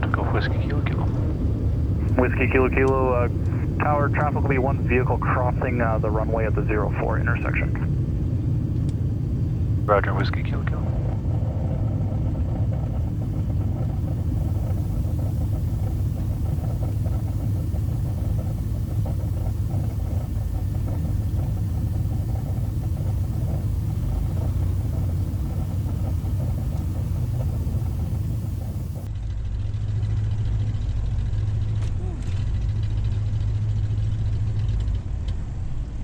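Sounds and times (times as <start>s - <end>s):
aircraft engines droning: 0.0s - 29.1s.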